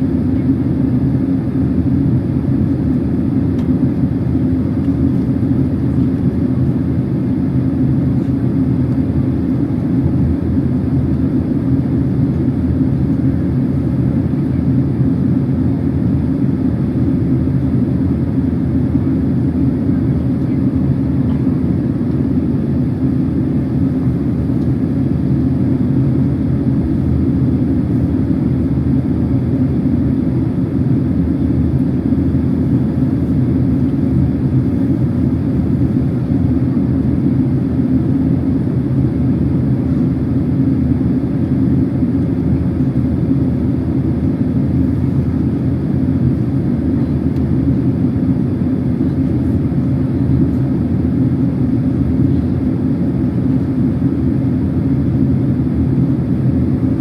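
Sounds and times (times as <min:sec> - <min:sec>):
airliner engine and airflow rumble: 0:00.0 - 0:57.0.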